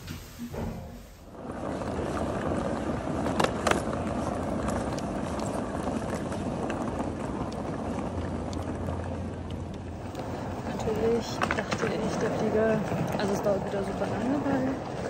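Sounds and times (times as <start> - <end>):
suitcase wheels rolling on tiles: 0.0 - 15.0.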